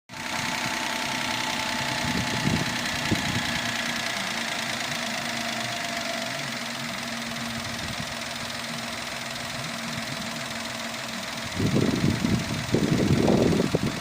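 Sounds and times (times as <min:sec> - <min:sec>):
small car engine idling: 0:00.1 - 0:14.0.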